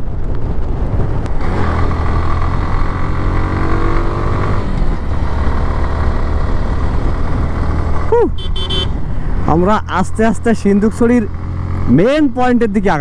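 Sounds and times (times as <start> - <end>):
motorcycle engine accelerating: 0.0 - 12.7.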